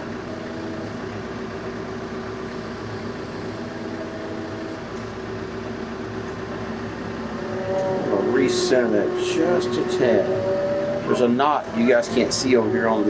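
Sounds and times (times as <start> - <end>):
tractor and sawmill engines humming: 0.0 - 13.0.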